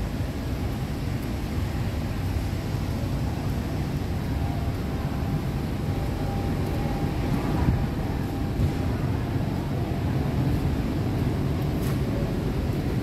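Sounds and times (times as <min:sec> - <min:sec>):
factory hall rumbling: 0:00.0 - 0:13.0.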